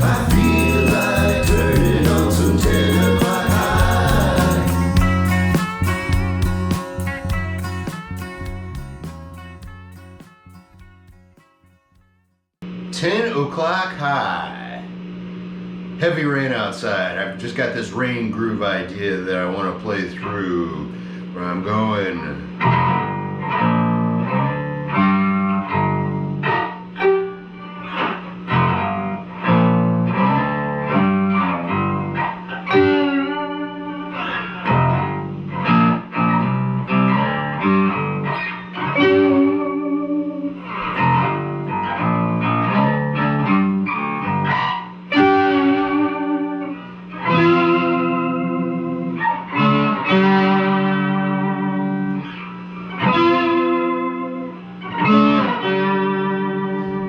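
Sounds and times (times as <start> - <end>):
guitar playing chords: 0.0 - 11.9, 22.6 - 57.0.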